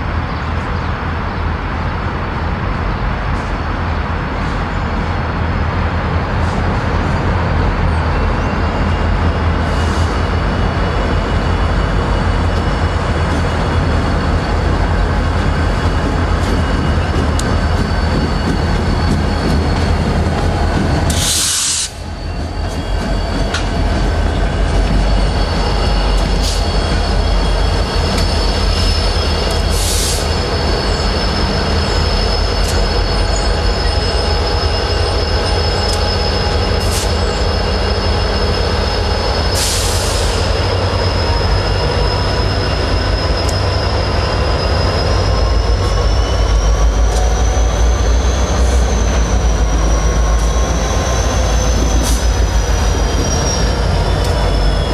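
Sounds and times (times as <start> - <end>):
train engine rumble: 0.0 - 54.9
wheel squeal: 6.4 - 54.9.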